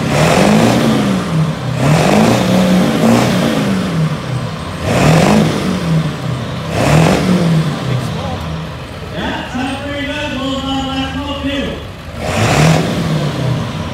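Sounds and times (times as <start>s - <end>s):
diesel engine revving: 0.0s - 13.9s.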